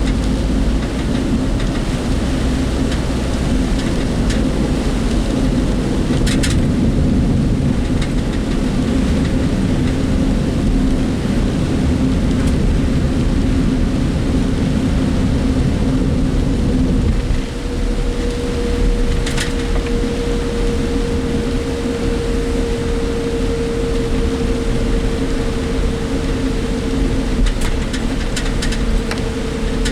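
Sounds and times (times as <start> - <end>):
vehicle body rattles: 0.0 - 21.9, 23.0 - 29.9
rain: 0.0 - 29.9
road and engine rumble: 0.0 - 29.9.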